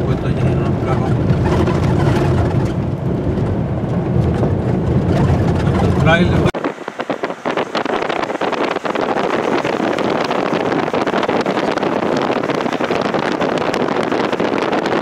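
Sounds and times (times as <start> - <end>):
tyre and wind noise: 0.0 - 15.0.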